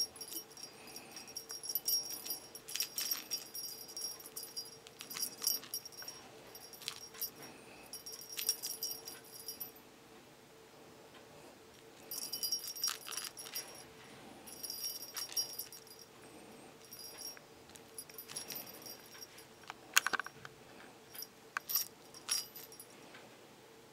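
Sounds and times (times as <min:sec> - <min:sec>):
small bell jingling: 0:00.0 - 0:09.8, 0:12.0 - 0:13.9, 0:14.5 - 0:20.4, 0:21.1 - 0:23.0.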